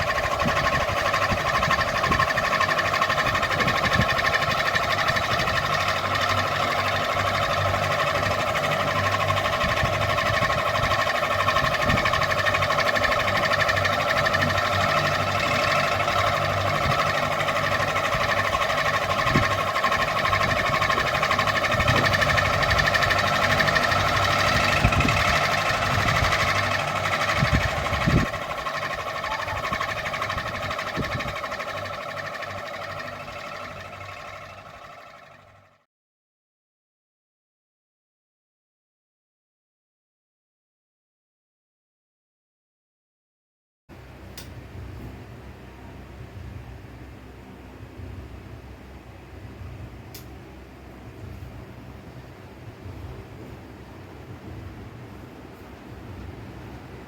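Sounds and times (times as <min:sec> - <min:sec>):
ceiling fan humming: 0:00.0 - 0:35.8, 0:43.9 - 0:57.0.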